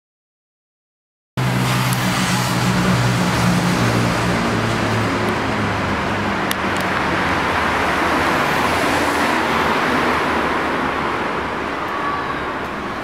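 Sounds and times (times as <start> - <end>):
city road traffic hiss: 1.4 - 13.0.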